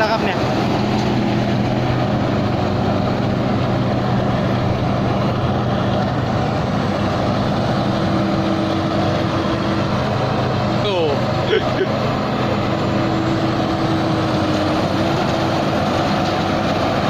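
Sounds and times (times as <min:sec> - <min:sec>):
combine harvester engine running: 0:00.0 - 0:17.0.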